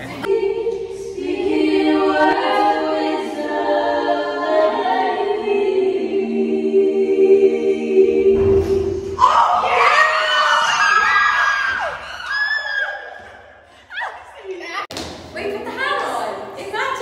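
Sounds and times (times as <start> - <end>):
voices singing in harmony: 0.0 - 13.6.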